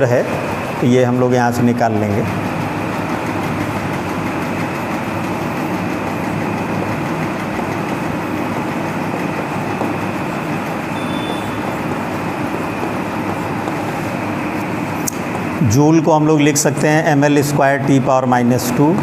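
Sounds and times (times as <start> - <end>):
machine hum and rumble: 0.0 - 19.0.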